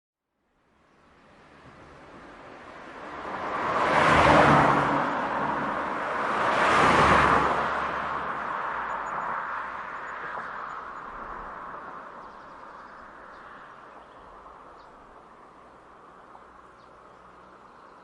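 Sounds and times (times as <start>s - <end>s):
cars driving past: 1.1s - 18.0s.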